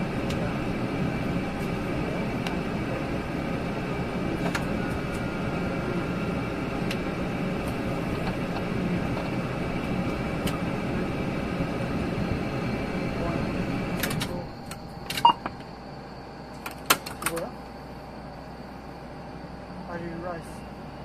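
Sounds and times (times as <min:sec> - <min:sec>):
turboprop airliner humming: 0:00.0 - 0:21.0.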